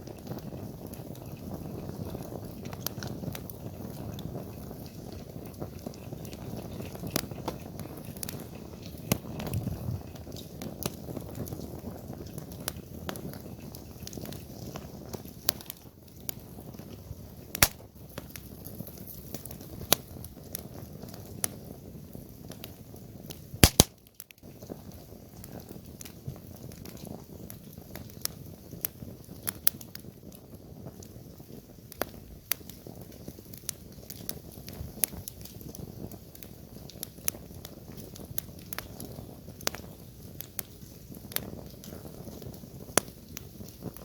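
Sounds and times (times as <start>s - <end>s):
fire crackling and popping: 0.0s - 44.0s
rush of campfire flames: 0.0s - 44.0s.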